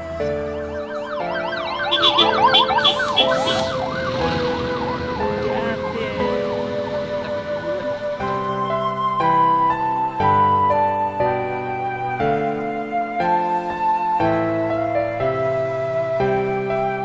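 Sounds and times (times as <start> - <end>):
background music: 0.0 - 17.0
vehicle sirens wailing: 0.0 - 17.0.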